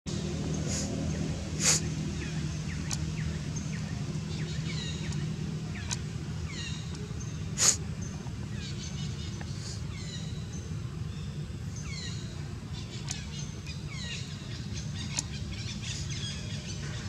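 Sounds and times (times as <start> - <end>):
steady low hum: 0.1 - 17.0.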